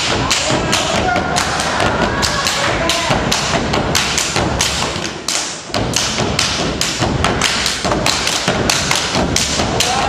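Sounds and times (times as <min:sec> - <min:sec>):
feet stomping on wooden stage: 0:00.0 - 0:10.0.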